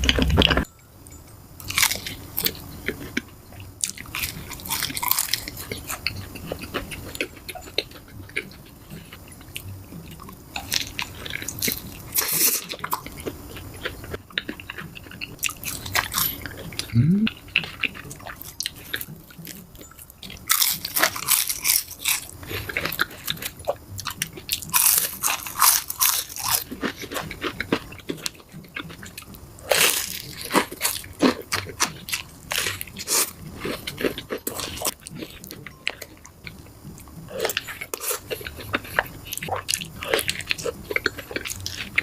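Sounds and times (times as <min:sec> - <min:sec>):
crunchy food being chewed: 0:01.6 - 0:42.0.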